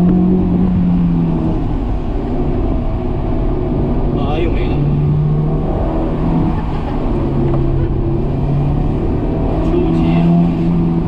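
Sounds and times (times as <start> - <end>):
car engine revving from inside: 0.0 - 11.0.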